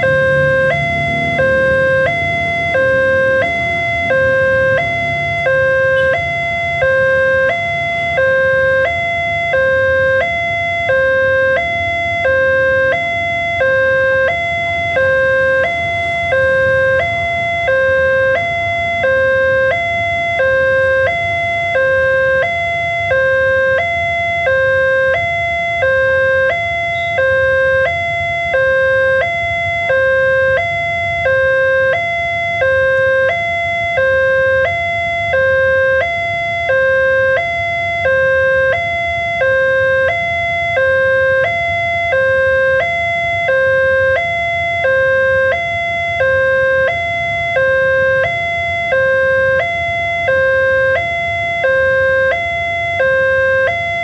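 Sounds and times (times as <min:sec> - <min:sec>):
level crossing two-tone alarm: 0:00.0 - 0:54.0.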